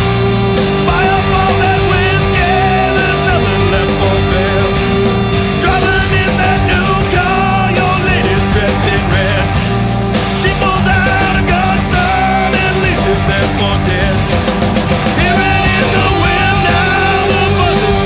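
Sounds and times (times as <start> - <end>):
drum hits: 0.0 - 18.0
hard rock band playing: 0.0 - 18.0
pitch-bending lead guitar line: 0.0 - 18.0.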